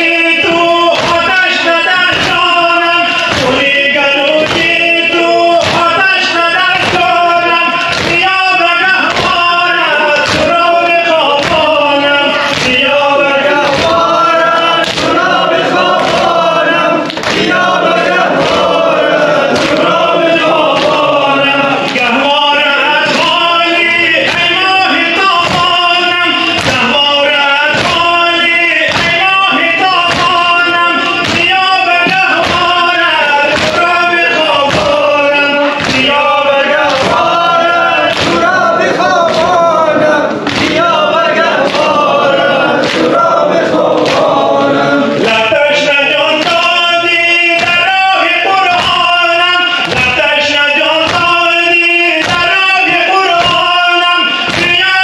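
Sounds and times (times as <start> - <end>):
men singing a lament: 0.0 - 55.0
chest-beating thuds: 0.4 - 22.3, 22.9 - 48.0, 48.6 - 55.0.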